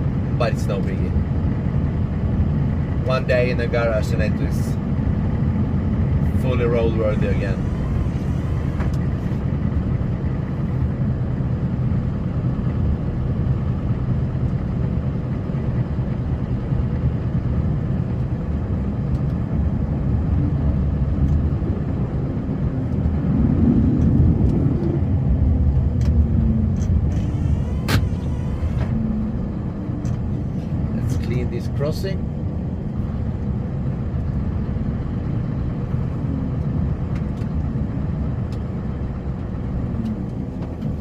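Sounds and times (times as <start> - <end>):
snowplow engine rumbling: 0.0 - 41.0.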